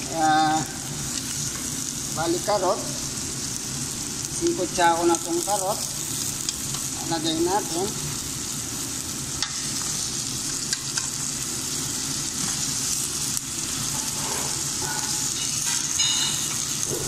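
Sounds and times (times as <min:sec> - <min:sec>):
food sizzling in a pot: 0:00.0 - 0:17.0.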